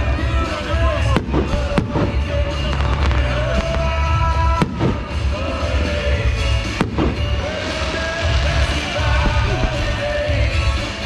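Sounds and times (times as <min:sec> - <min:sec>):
fireworks bursting: 0:00.0 - 0:11.0
music with long held notes: 0:00.0 - 0:11.0
steady low rumble: 0:00.9 - 0:10.5.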